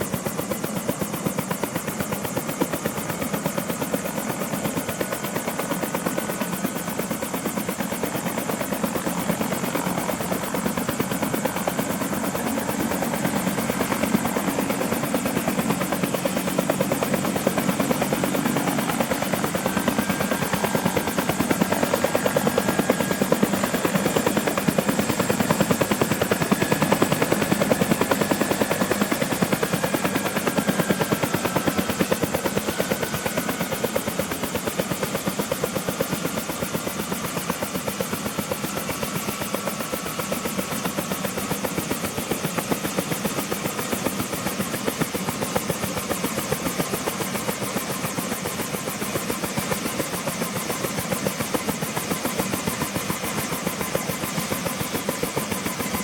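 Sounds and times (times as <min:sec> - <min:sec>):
helicopter rotor chop: 0:00.0 - 0:56.0.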